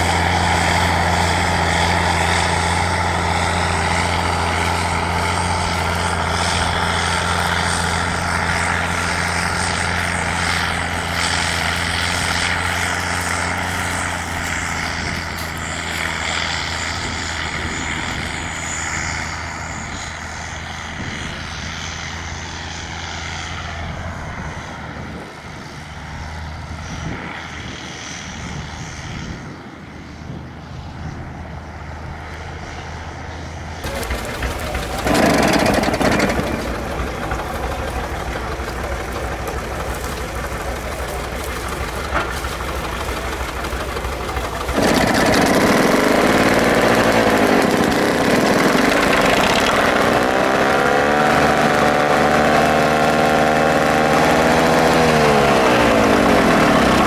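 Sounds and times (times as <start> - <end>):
large engine humming: 0.0 - 57.0.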